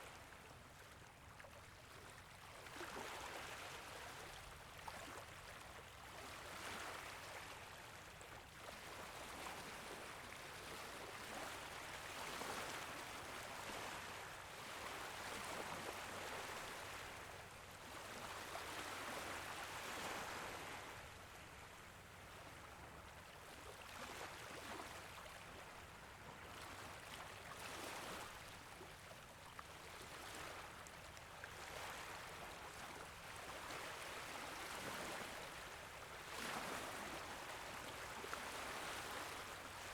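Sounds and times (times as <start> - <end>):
small waves lapping at a beach: 0.0 - 39.9.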